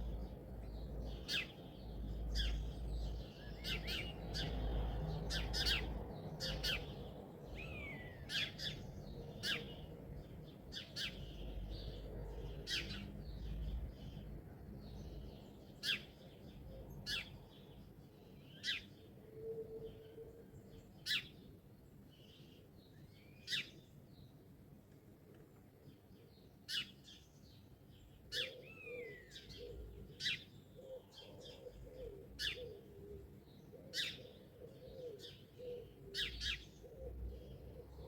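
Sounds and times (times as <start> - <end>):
songbirds chirping: 0.0 - 38.0.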